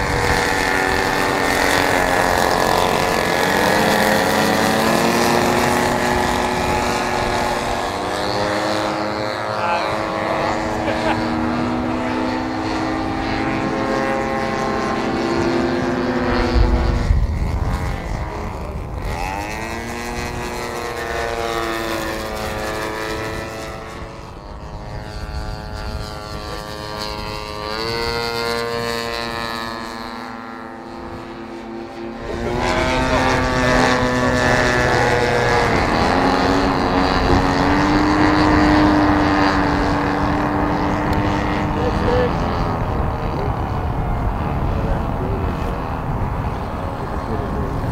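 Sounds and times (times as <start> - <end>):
model plane engine droning: 0.0 - 47.9.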